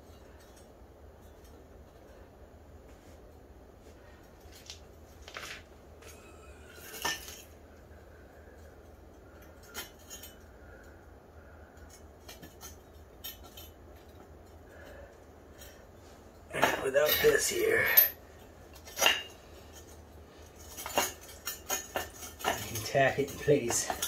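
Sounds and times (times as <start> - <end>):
metal tubes clinking: 4.1 - 24.0.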